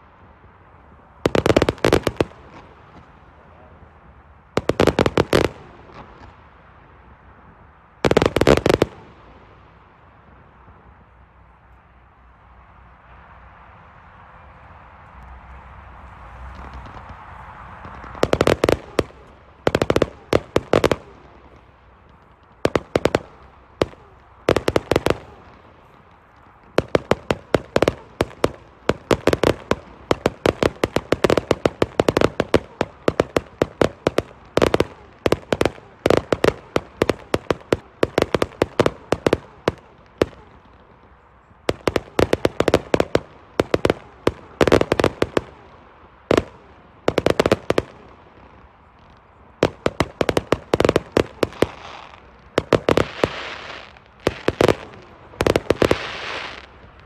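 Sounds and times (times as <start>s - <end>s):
fireworks cracking and banging: 1.1s - 6.5s, 8.0s - 9.5s, 15.1s - 57.0s.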